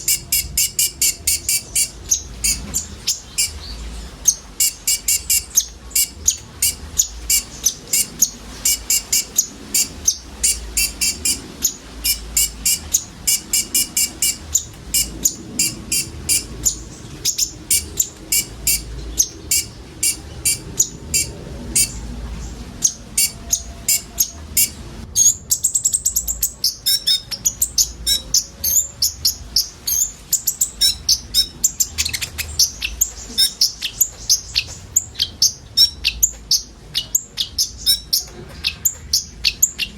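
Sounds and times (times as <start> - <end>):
sunbirds chirping and twittering: 0.0 - 39.9.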